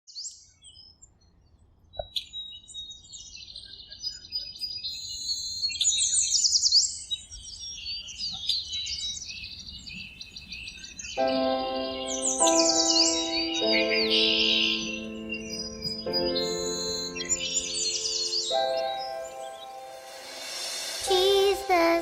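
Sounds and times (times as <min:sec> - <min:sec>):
birds chirping and singing: 0:02.1 - 0:22.0.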